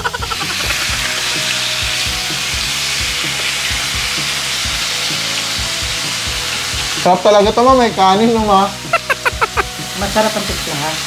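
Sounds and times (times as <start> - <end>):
meat sizzling on grill pan: 0.0 - 11.0.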